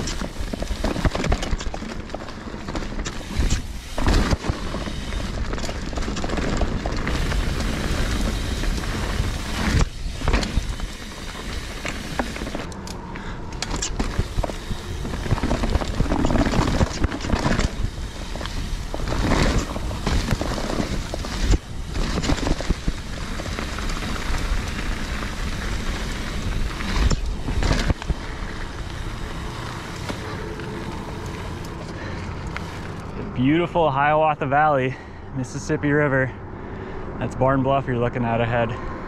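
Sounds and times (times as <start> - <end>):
bike knocking and rattling: 0.0 - 33.2
bike tyre and wind noise: 0.0 - 39.0.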